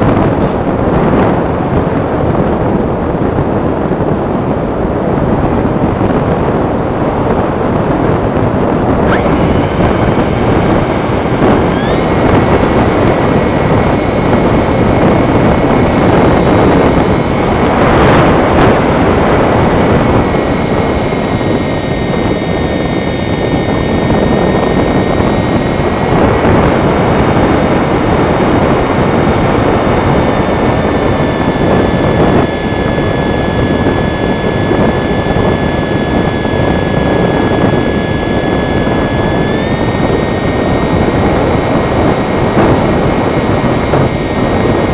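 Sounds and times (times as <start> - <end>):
wind noise on microphone: 0.0 - 44.9
electric motor whining: 7.6 - 44.9.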